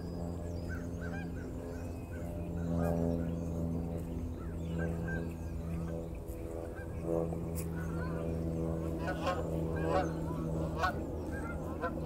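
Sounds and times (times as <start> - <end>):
bird calls: 0.0 - 12.0
steady low hum: 0.0 - 12.0.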